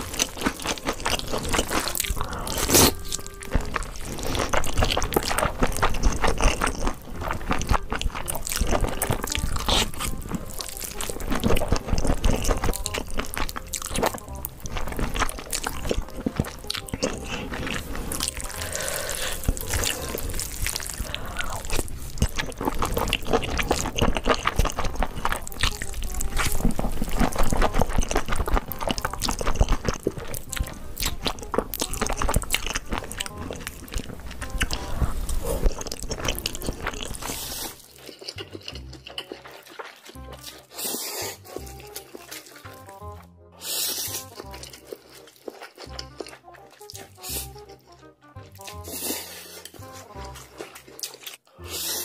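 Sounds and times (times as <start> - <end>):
slurping and chewing noodles: 0.0 - 52.0.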